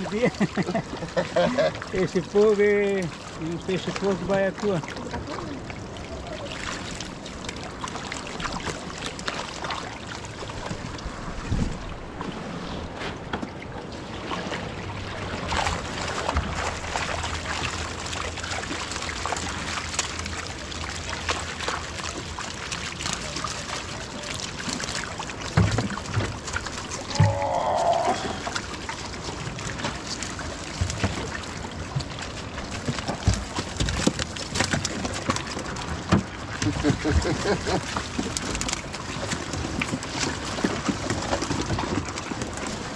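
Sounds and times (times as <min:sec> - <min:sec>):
water splashing and trickling: 0:00.0 - 0:42.9.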